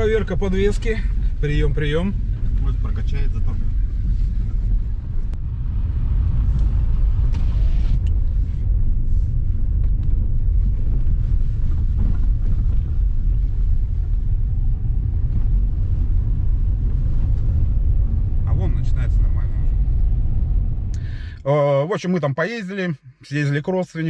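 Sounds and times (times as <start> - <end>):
tyres and suspension rumbling: 0.0 - 22.0.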